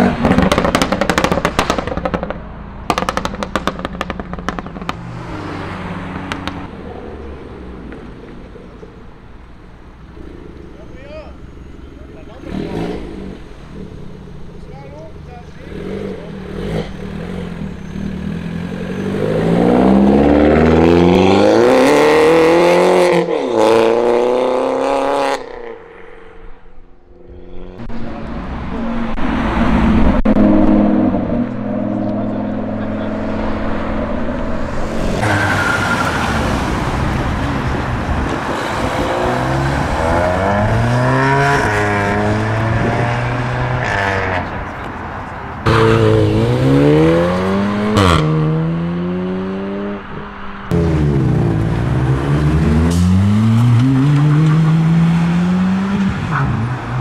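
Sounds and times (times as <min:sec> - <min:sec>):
cars accelerating: 0:00.0 - 0:57.0.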